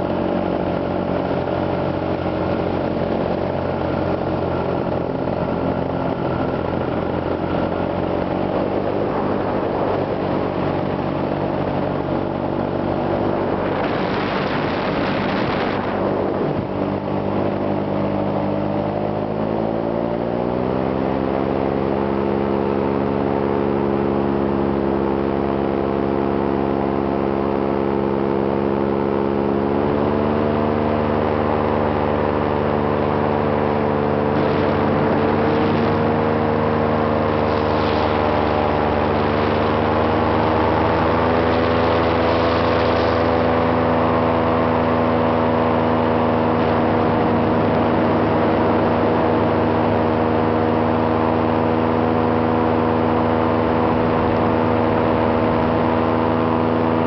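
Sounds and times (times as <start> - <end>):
light aircraft engine running: 0.0 - 57.0
rush of wind: 0.0 - 57.0.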